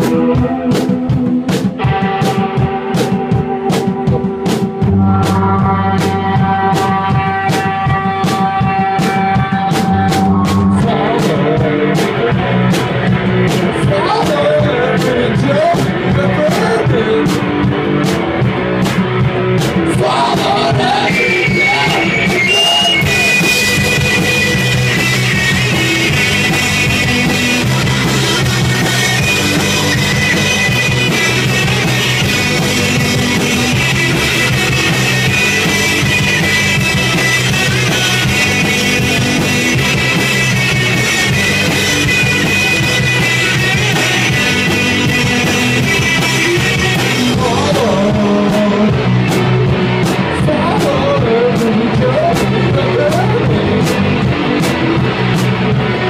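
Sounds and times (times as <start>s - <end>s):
drums: 0.0s - 56.0s
electric guitars through amplifiers: 0.0s - 56.0s.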